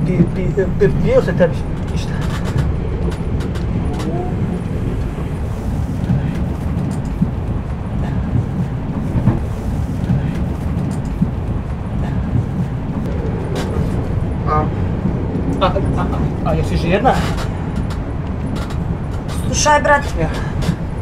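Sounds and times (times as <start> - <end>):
faint clicks and rattles: 0.0 - 21.0
train rumbling: 0.0 - 21.0.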